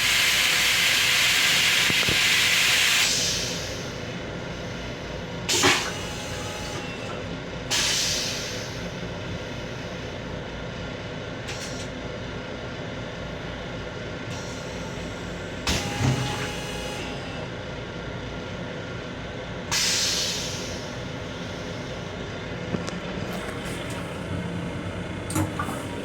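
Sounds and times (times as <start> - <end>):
railcar running rumble: 0.0 - 26.0.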